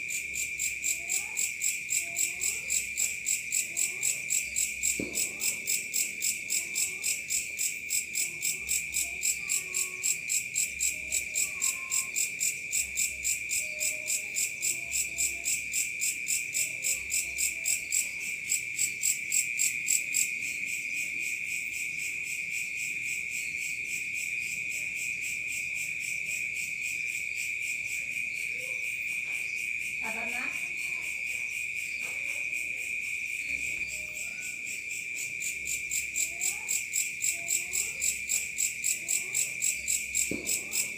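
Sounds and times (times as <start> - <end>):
crickets trilling: 0.0 - 40.9
pulsing cricket chirp: 0.1 - 40.9.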